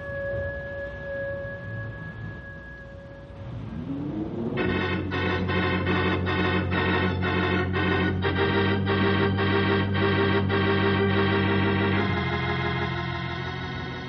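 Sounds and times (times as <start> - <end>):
pulsing organ chords: 0.0 - 14.0.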